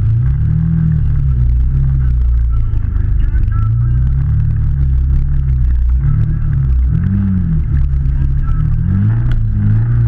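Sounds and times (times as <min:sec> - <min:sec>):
vehicle engine revving: 0:00.0 - 0:10.0.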